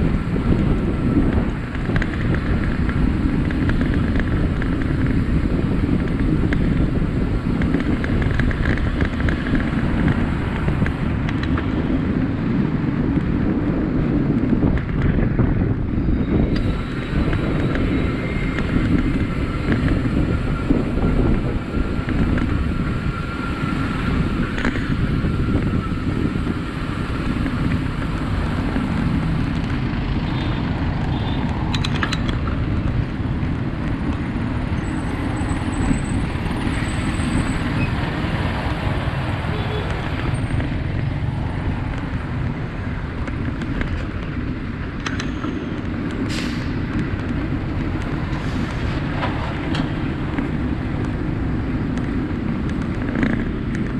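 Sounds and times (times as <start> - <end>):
motorcycles: 0.0 - 53.9
road traffic passing: 0.0 - 53.9
wind rumbling on microphone: 0.0 - 53.9.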